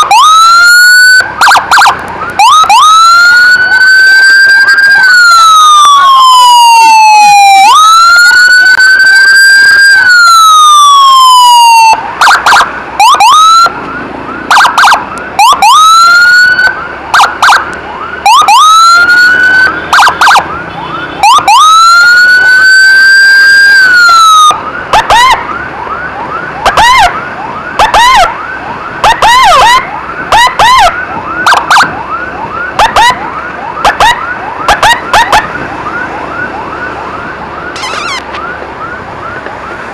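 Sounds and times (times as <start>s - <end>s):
electronic emergency siren: 0.0s - 39.9s.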